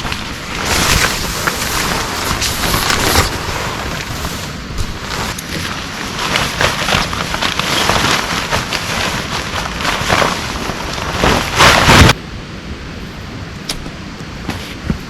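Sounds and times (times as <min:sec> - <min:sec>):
heavy rain pelting: 0:00.0 - 0:12.2.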